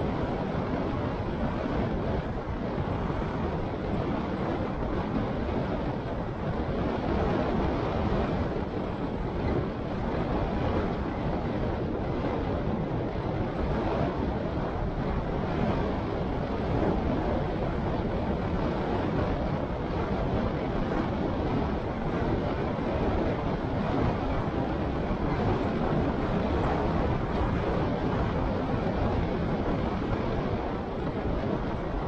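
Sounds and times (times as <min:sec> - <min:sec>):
car road and wind noise: 0:00.0 - 0:32.0.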